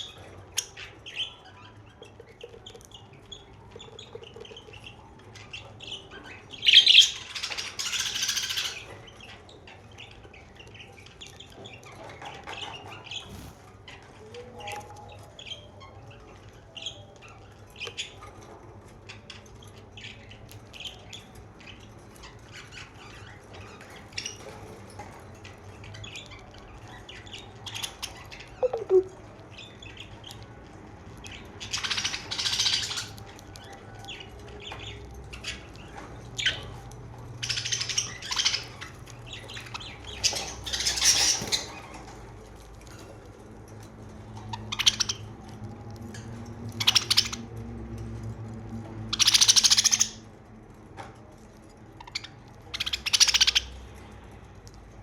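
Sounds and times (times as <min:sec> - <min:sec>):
budgerigars chirping and chattering: 0:00.0 - 0:47.8, 0:49.1 - 0:50.4, 0:51.0 - 0:55.0.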